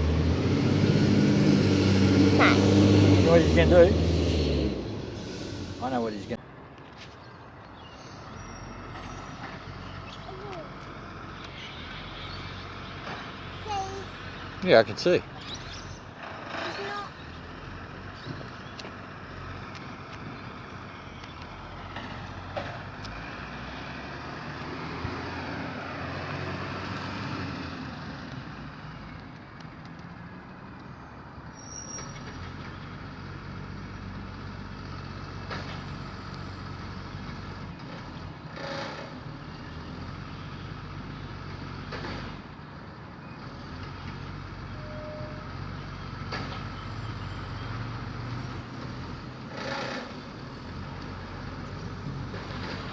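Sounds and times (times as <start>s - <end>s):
garbage truck engine drone: 0.0s - 6.7s, 8.1s - 29.5s, 32.1s - 52.9s.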